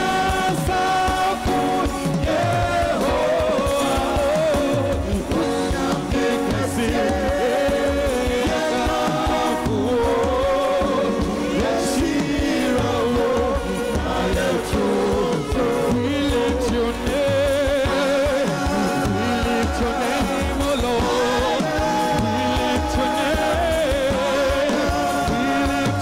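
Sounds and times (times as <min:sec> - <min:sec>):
backing band playing: 0:00.0 - 0:26.0
singers on microphones: 0:00.0 - 0:26.0.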